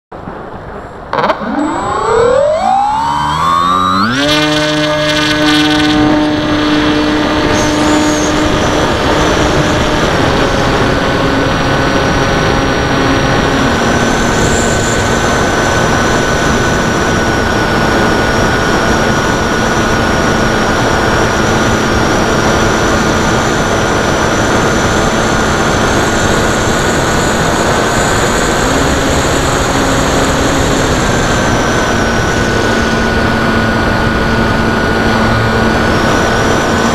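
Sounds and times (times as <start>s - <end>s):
electric motor and propeller whine: 0.7s - 36.9s
wind rush on microphone: 2.7s - 36.9s.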